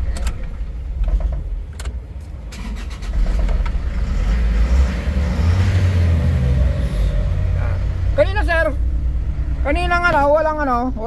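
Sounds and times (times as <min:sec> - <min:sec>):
diesel engine starting and running: 0:00.0 - 0:11.0.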